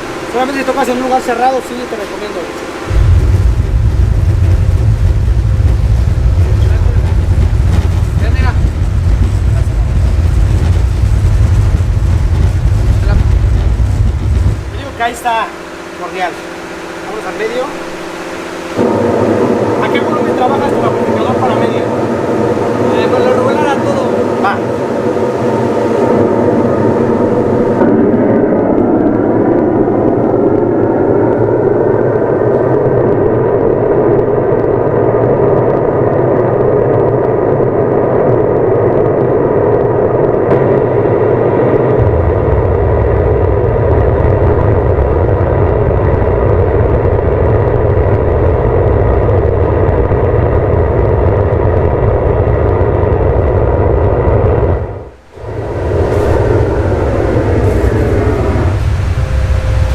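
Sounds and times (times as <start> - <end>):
loud dense sound from speakers: 0.0 - 33.8, 40.2 - 59.9
deep bass: 0.0 - 59.9.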